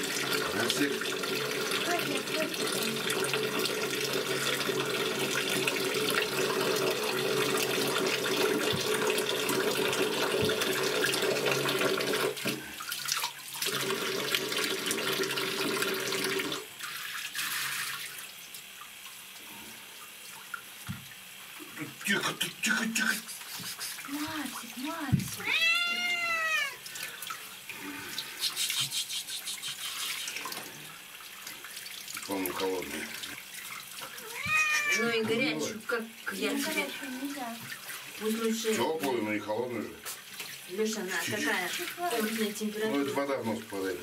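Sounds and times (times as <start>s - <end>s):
water running from tap: 0.0s - 44.0s.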